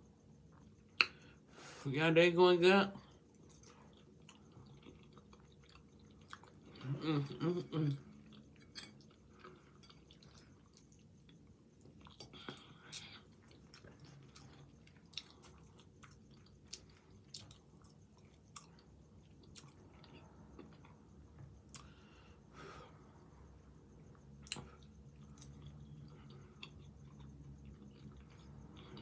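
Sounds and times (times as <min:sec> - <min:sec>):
faint close-up chewing: 0:03.0 - 0:07.0, 0:07.9 - 0:22.3, 0:23.9 - 0:29.0.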